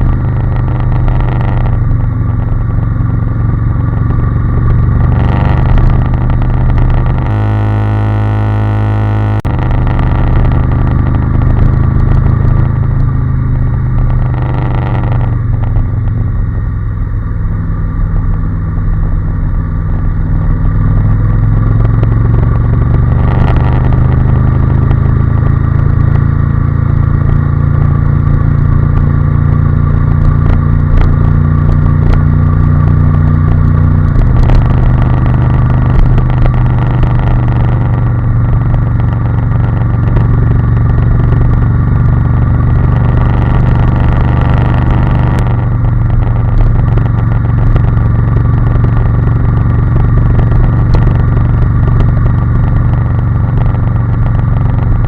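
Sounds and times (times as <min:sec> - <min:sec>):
motorcycle engine cruising: 0:00.0 - 0:55.0
road and wind noise: 0:00.0 - 0:55.0.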